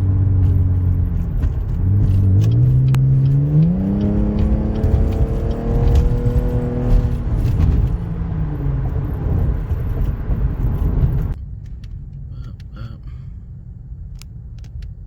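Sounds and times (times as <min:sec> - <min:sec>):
car engine accelerating: 0:00.0 - 0:12.7
low exhaust rumble: 0:00.0 - 0:15.0
road noise: 0:00.0 - 0:15.0.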